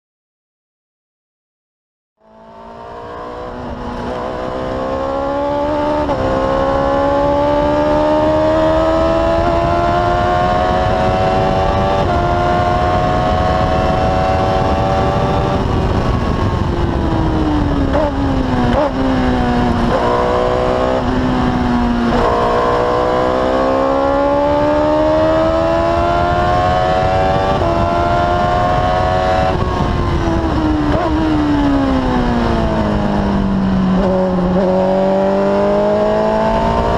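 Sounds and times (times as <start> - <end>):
race car engine revving: 2.2 - 36.9
wind rush: 2.7 - 36.9.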